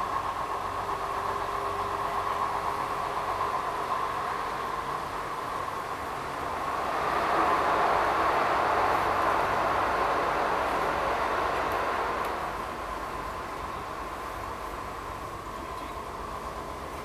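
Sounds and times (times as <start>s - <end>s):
light-rail car rumble and hiss: 0.0s - 17.0s.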